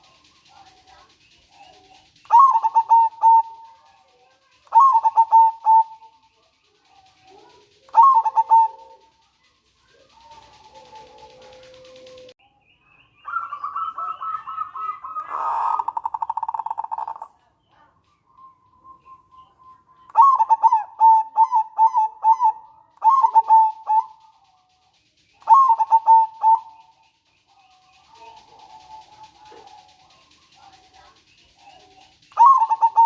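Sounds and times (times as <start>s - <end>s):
dove rattling trill: 0.0s - 12.4s, 13.2s - 33.0s
dove rhythmic cooing: 0.0s - 12.4s, 13.3s - 33.0s.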